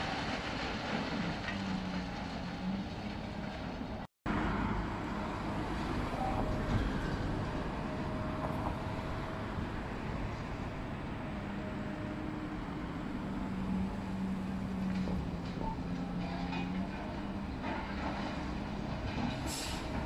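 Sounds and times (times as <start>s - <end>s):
excavator diesel engine and hydraulics: 0.0s - 20.0s.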